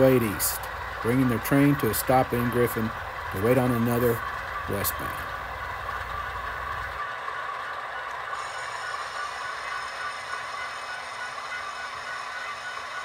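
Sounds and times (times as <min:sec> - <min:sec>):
model locomotive engine sound: 0:00.0 - 0:13.0
steady high squeal: 0:00.0 - 0:13.0
train wheel clatter and rattle: 0:00.0 - 0:13.0.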